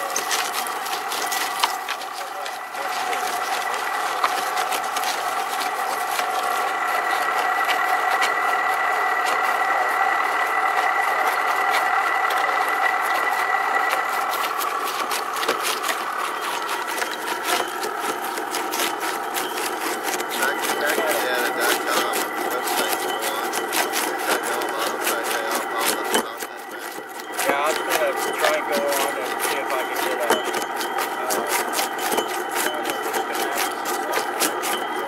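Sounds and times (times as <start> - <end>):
charcoal crackling and clicking: 0.0 - 35.0
grinder whining: 0.0 - 35.0.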